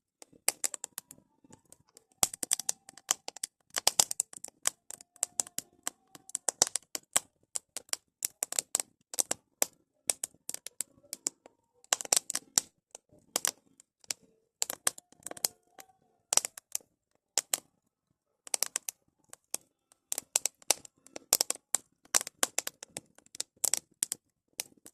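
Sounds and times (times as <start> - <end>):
firewood crackling and popping: 0.2 - 17.7, 18.4 - 24.9.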